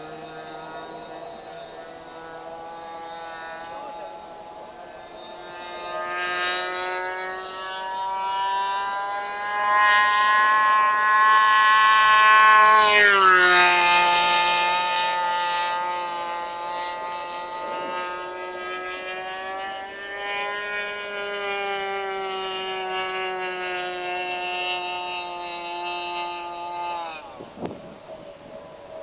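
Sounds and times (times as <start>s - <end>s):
model airplane engine whine: 0.0s - 29.0s.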